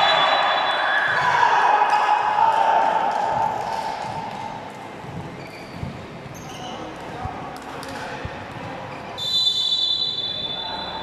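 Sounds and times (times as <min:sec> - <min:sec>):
voices in an indoor hall: 0:00.0 - 0:11.0.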